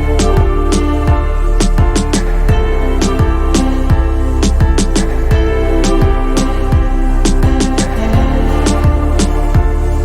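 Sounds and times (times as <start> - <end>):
steady drum beat: 0.0 - 9.9.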